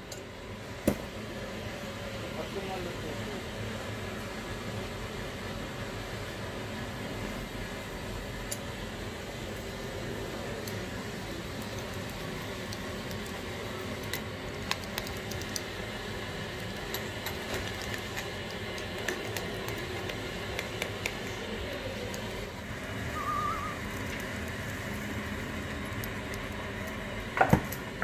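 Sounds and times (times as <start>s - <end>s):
steady background noise: 0.0s - 28.0s.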